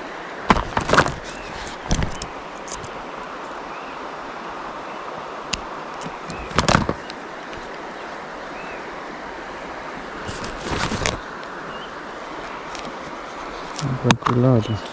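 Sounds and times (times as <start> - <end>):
flowing water: 0.0 - 14.9.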